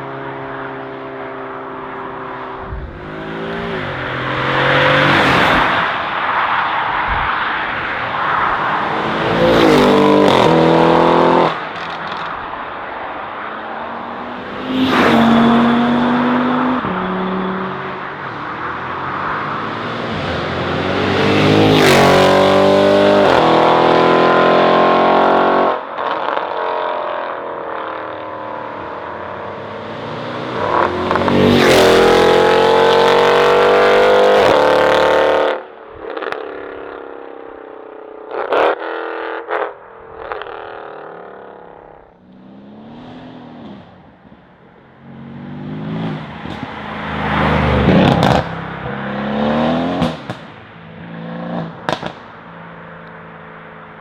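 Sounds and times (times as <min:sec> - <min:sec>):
car engine accelerating: 0:00.0 - 0:25.8, 0:27.8 - 0:35.6, 0:40.4 - 0:53.3.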